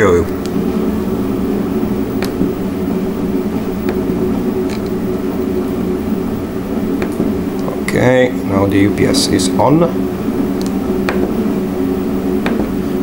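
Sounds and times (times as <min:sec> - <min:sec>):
printer motors and fans humming: 0:00.0 - 0:13.0.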